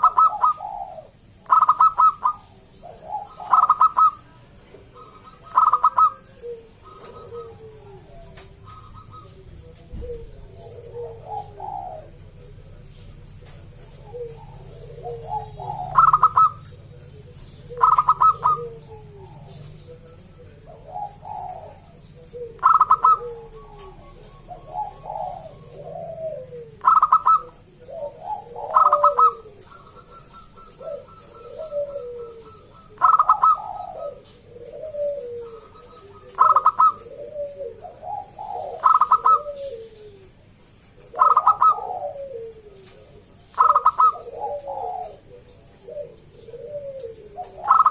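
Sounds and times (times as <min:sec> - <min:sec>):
dove cooing song: 0:00.0 - 0:47.9.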